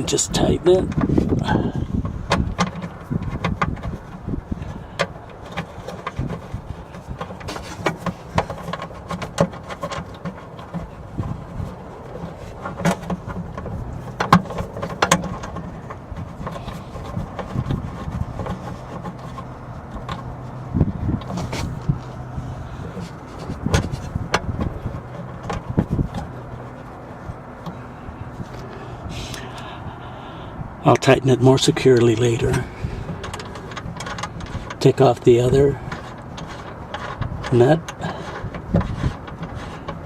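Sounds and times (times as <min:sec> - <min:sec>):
clicks and knocks of handling: 0:00.0 - 0:30.4, 0:31.0 - 0:40.0.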